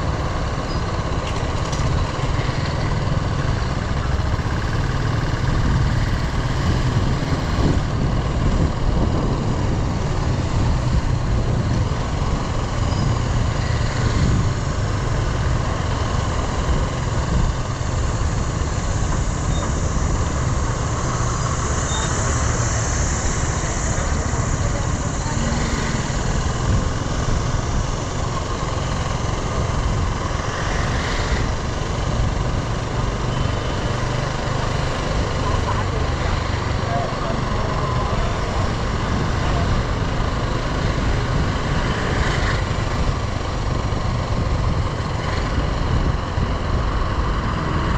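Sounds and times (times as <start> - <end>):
motorcycle engine running: 0.0 - 47.9
road noise: 0.0 - 47.9.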